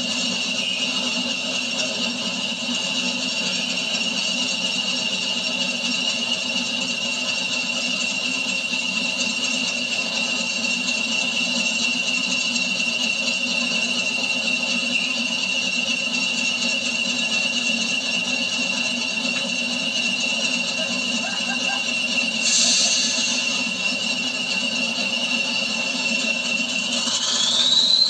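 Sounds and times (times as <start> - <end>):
diesel locomotive engine idling: 0.0 - 28.0
high turbocharger whistle: 0.0 - 28.0.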